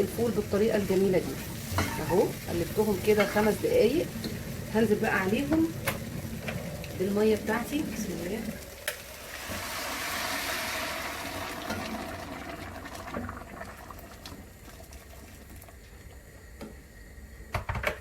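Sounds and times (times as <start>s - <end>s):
water hissing in hot pot: 0.0s - 15.9s.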